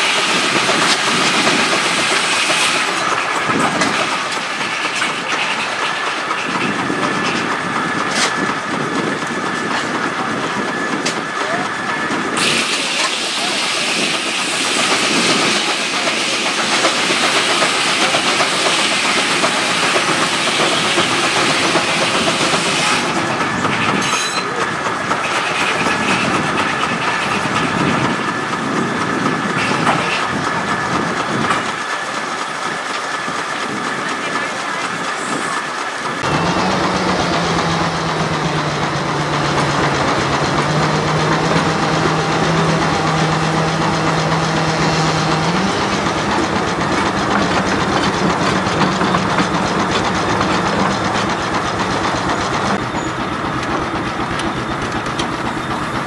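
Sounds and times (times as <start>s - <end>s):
steam engine hissing and clattering: 0.0s - 56.0s
steam engine low drone: 0.0s - 56.0s.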